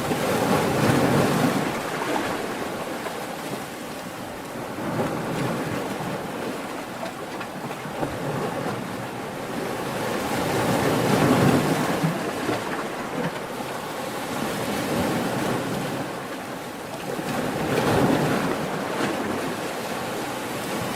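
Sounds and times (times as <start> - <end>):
ocean waves breaking on shore: 0.0 - 20.9.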